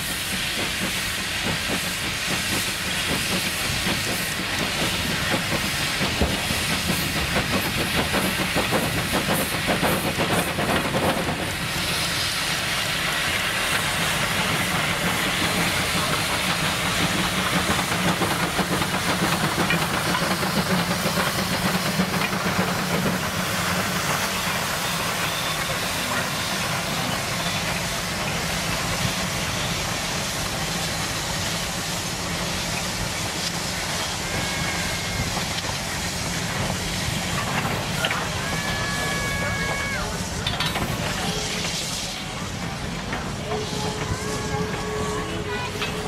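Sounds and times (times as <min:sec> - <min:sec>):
railcars rolling on rails: 0:00.0 - 0:46.0
steam locomotive hissing: 0:00.0 - 0:46.0.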